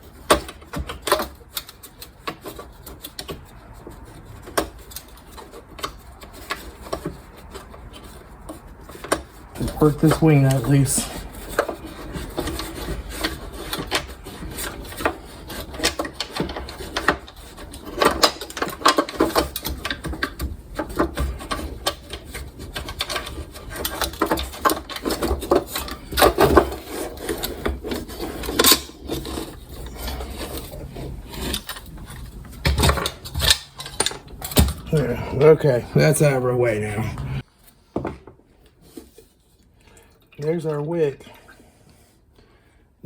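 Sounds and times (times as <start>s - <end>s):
metal scraping and clinking: 1.0s - 37.4s.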